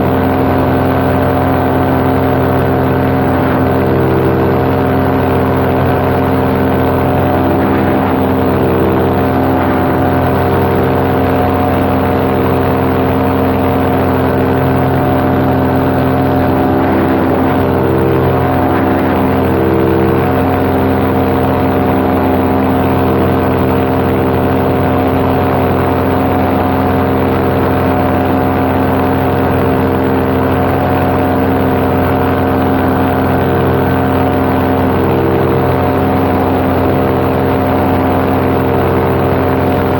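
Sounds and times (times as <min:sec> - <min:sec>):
paramotor engine drone: 0:00.0 - 0:39.9.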